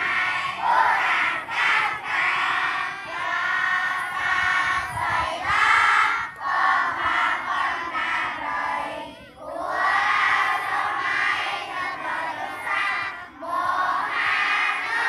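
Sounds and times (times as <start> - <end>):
crowd chanting in unison: 0.0 - 15.0.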